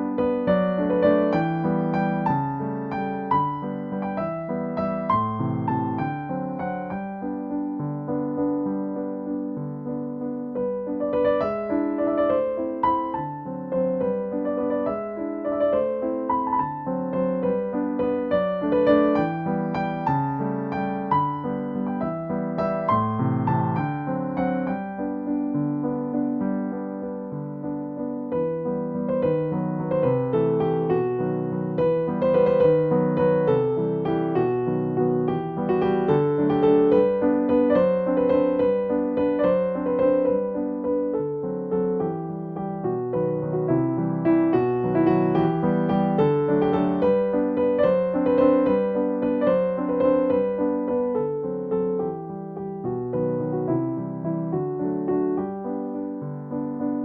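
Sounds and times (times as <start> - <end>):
soft piano music: 0.0 - 57.0.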